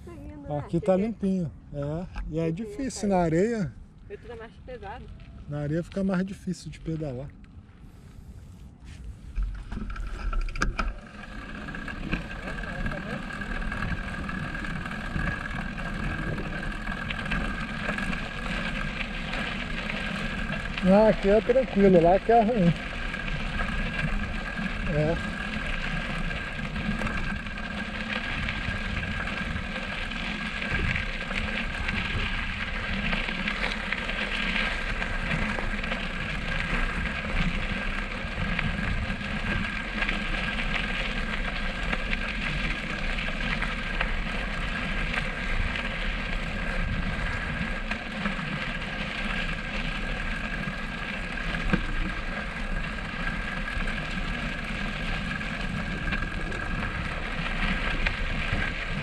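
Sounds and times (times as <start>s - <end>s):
bicycle tyres rattling over stones: 0.0s - 8.4s, 9.0s - 59.0s
low buffeting rumble: 0.0s - 51.4s.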